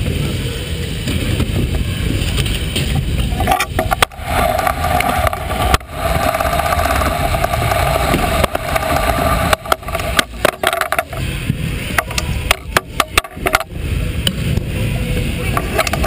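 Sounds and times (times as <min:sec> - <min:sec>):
scooter wheels rolling on ramps: 0:00.0 - 0:16.0.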